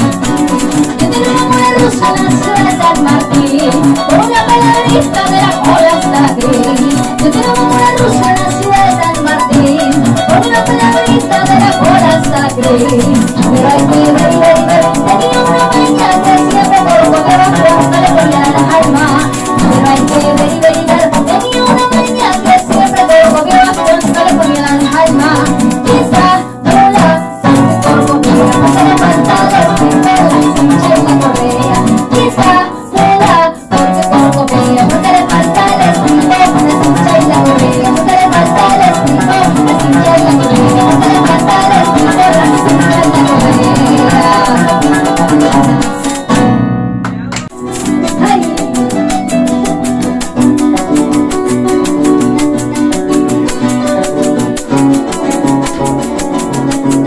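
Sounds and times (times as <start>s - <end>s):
maracas rattling: 0.0s - 46.7s, 47.4s - 57.0s
harp and cuatro plucked strings: 0.0s - 57.0s.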